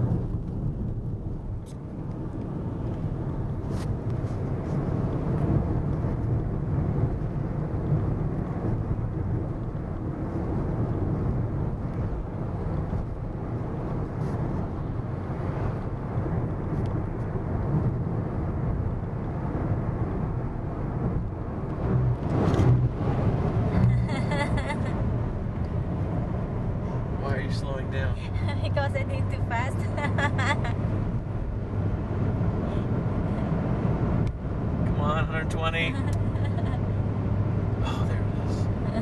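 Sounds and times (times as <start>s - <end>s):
car cabin road and engine rumble: 0.0s - 39.0s.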